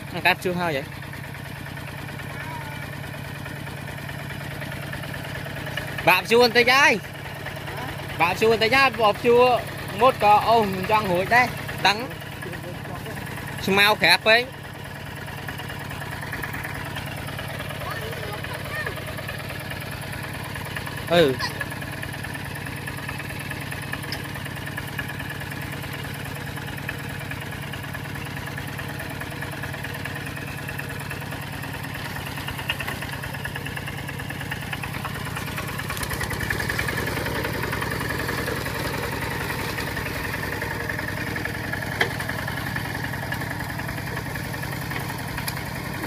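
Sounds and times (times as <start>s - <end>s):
diesel engine chugging: 0.0s - 46.0s.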